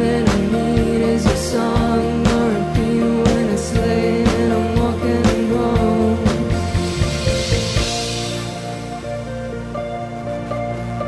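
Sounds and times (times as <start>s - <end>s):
electric keyboard chords: 0.0s - 11.0s
low bass line: 0.0s - 11.0s.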